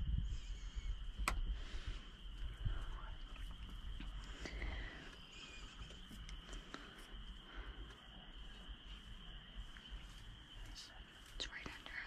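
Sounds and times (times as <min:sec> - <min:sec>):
high-pitched insect trill: 0:00.0 - 0:12.0
low rumble: 0:00.0 - 0:12.0.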